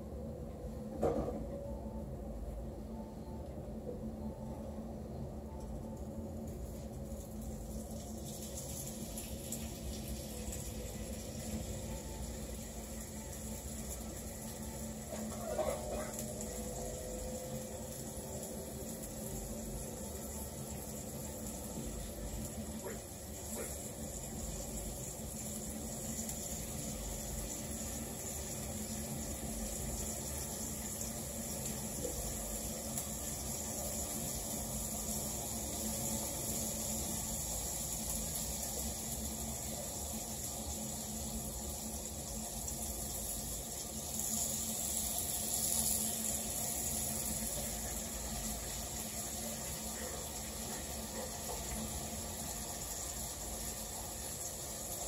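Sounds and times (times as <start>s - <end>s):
food sizzling in a pan: 4.6s - 55.0s.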